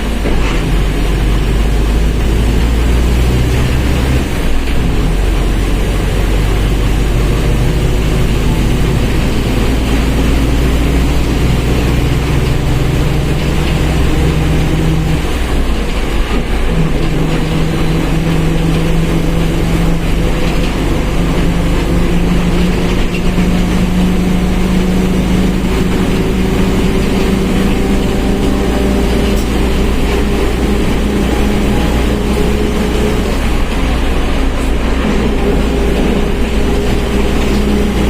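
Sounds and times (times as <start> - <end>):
bus drivetrain hum: 0.0 - 38.0
differential whine: 0.0 - 38.0.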